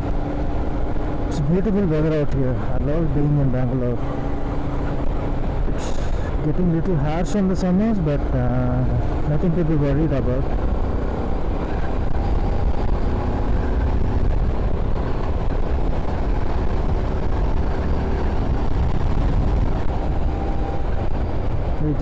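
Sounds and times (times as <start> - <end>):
low wind rumble on microphone: 0.0 - 22.0
motorcycle engine cruising: 0.0 - 22.0.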